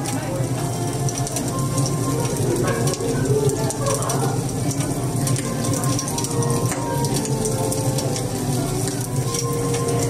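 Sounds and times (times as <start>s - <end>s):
low murmur of room: 0.0s - 10.0s
recorded fire crackle: 0.0s - 10.0s.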